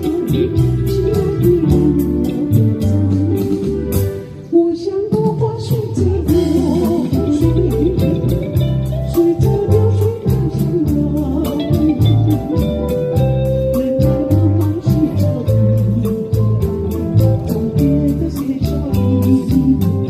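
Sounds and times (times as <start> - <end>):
band playing a pop song: 0.0 - 20.0.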